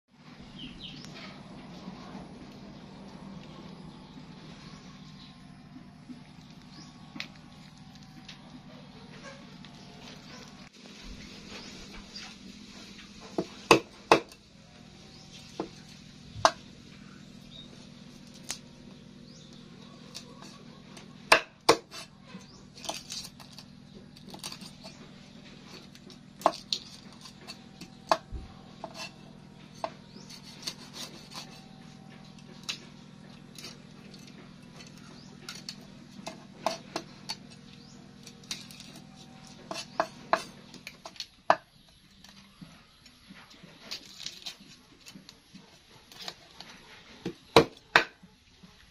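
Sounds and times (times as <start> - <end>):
steady low hum: 0.1 - 48.9.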